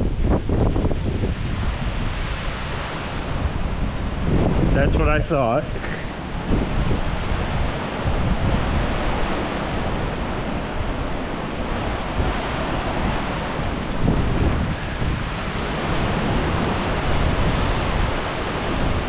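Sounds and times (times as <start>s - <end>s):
heavy rain pouring: 0.0s - 19.0s
wind rumbling on microphone: 0.0s - 19.0s.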